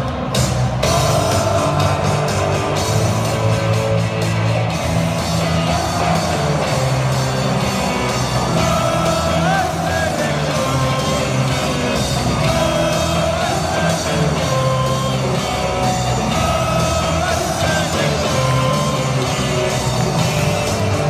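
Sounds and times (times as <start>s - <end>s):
loud music over sound system: 0.0s - 21.0s.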